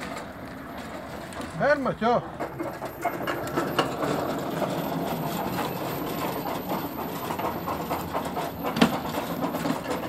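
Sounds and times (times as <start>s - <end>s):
model locomotive whirring: 0.0s - 10.0s.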